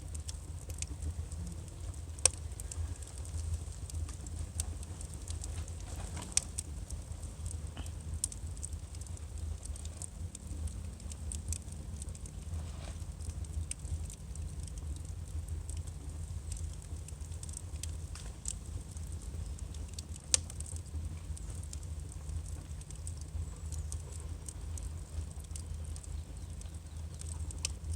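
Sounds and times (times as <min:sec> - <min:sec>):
firewood crackling and popping: 0:00.0 - 0:27.9
low fire rumble: 0:00.0 - 0:27.9.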